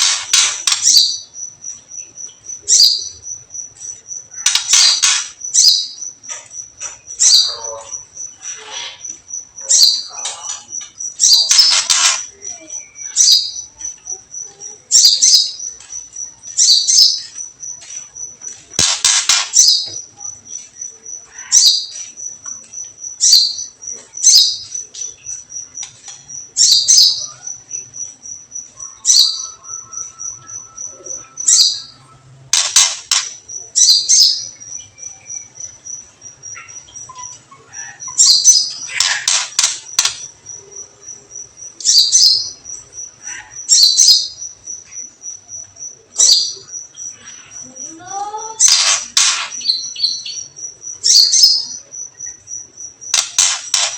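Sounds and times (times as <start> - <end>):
harsh chattering bird chirps: 0.0 - 53.9.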